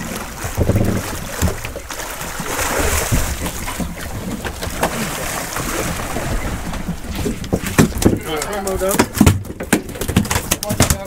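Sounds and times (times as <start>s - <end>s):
water splashing and churning: 0.0s - 11.0s.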